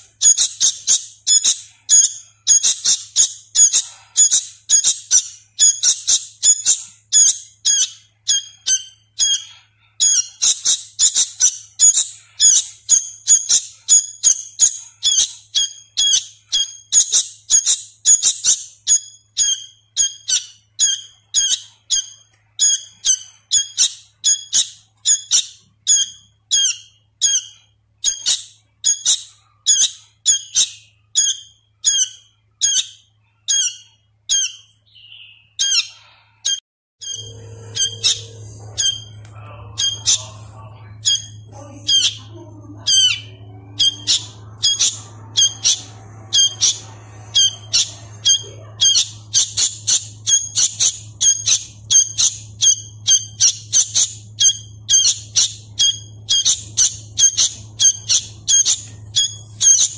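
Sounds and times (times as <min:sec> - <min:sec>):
bulbul chick calling: 0:00.2 - 0:40.4, 0:41.0 - 0:59.9.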